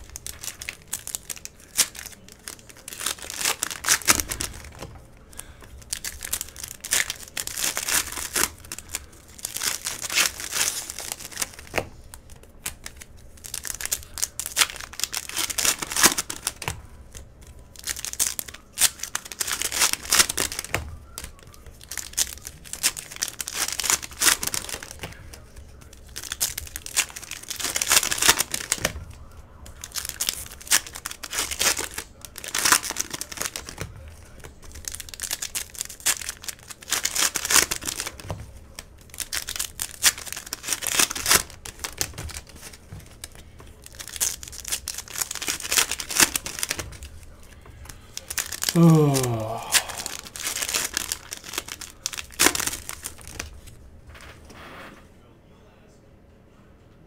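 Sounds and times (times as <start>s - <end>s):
cellophane wrappers crinkling: 0.0s - 54.2s.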